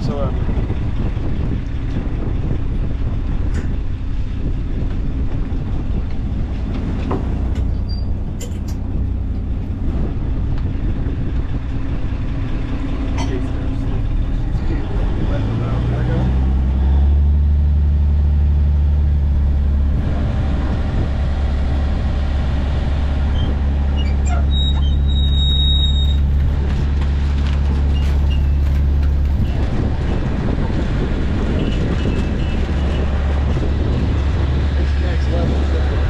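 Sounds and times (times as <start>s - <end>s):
diesel engine droning: 0.0s - 36.0s
wind: 0.0s - 36.0s
water noise: 0.7s - 36.0s.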